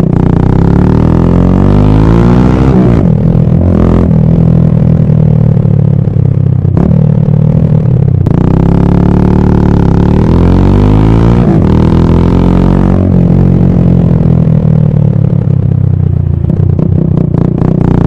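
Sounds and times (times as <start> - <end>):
motorcycle engine droning: 0.0 - 18.0.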